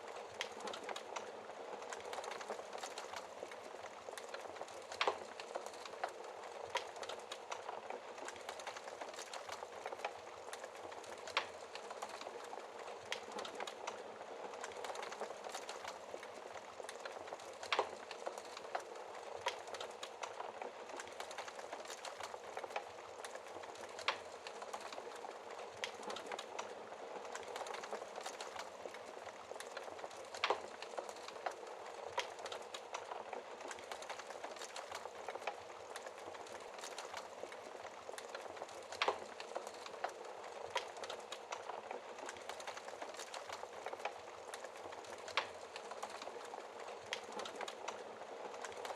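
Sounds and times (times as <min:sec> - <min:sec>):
loud fire snaps: 0:00.0 - 0:48.9
wood fire crackling: 0:00.0 - 0:48.9.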